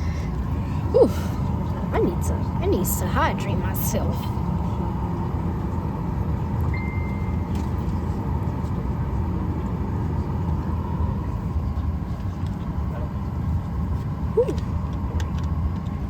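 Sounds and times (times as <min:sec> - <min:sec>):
airliner cabin rumble and hiss: 0:00.0 - 0:16.0.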